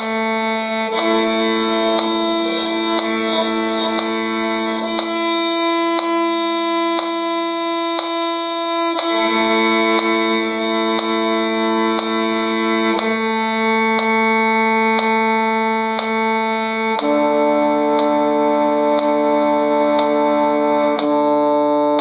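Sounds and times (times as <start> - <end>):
violin bowing long notes: 0.0 - 22.0.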